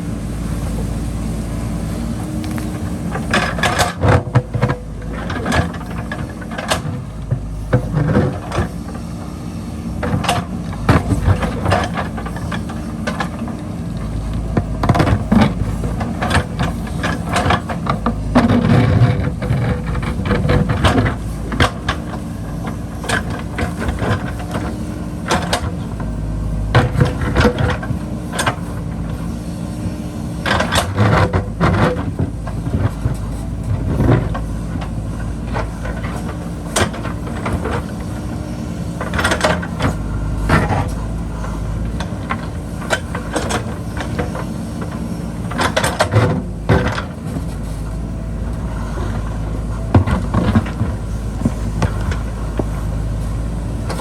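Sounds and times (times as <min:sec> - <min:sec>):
diesel engine running under load: 0:00.0 - 0:54.0
bucket clanking and scraping: 0:09.9 - 0:26.0, 0:26.7 - 0:54.0.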